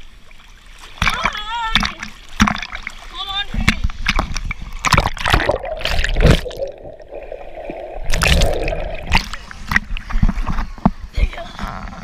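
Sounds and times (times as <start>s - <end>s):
water splashing and gurgling: 0.0s - 12.0s.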